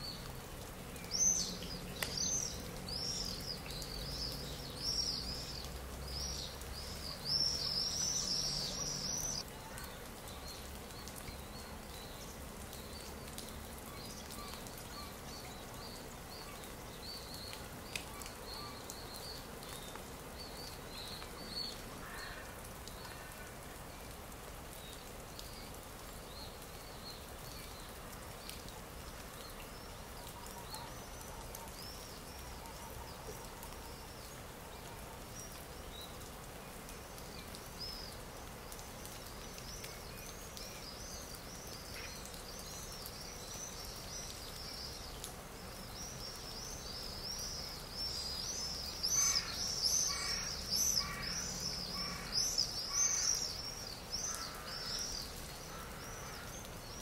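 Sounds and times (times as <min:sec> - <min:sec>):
soft outdoor background: 0:00.0 - 0:57.0
birds chirping: 0:00.9 - 0:57.0.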